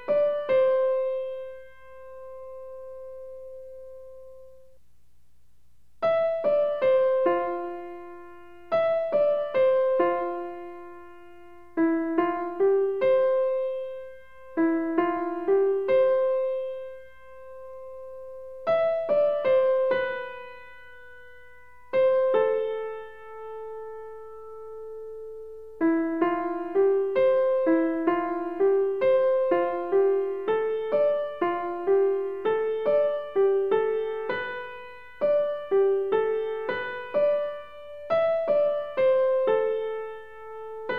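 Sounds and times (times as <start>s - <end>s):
solo piano melody: 0.0s - 4.8s, 6.0s - 40.9s.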